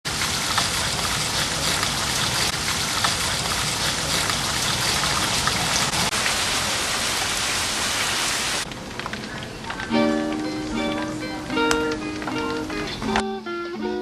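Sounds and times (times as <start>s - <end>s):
heavy rain falling: 0.1s - 13.2s.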